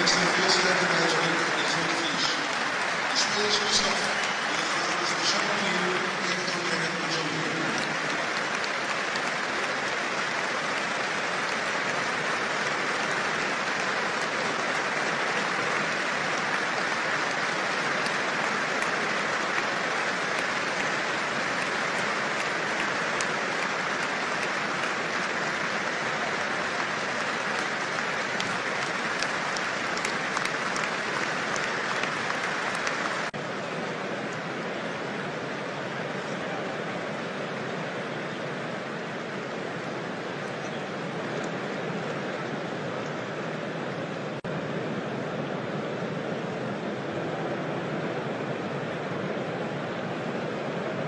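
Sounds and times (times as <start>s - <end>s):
stadium crowd applauding: 0.0s - 51.0s.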